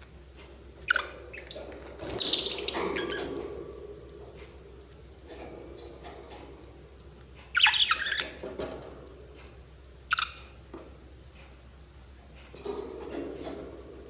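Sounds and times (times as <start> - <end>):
soft low parrot chatter: 0.3 - 14.0.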